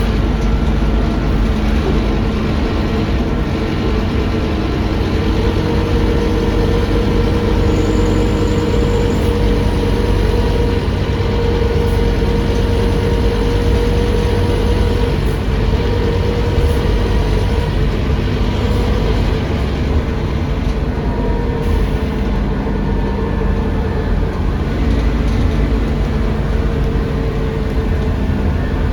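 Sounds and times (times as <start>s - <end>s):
bus engine drone: 0.0s - 28.9s.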